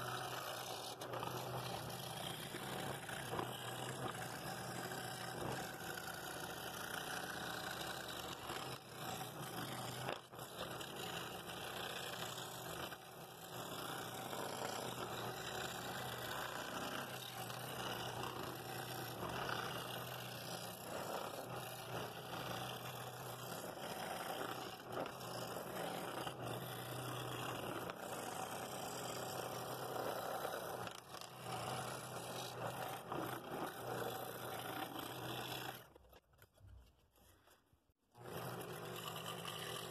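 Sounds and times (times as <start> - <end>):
scroll saw humming: 0.0 - 35.8, 38.2 - 39.9.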